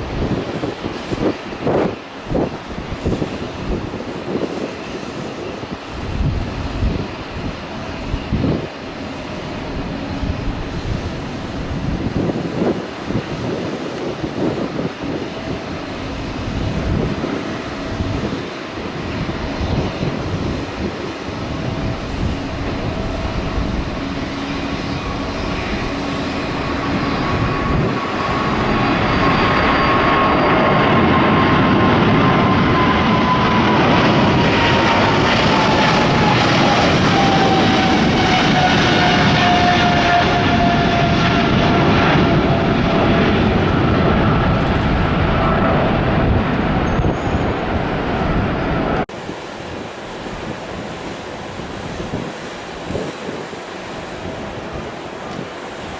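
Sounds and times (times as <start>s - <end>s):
jet engines passing at high power: 0.0s - 55.9s.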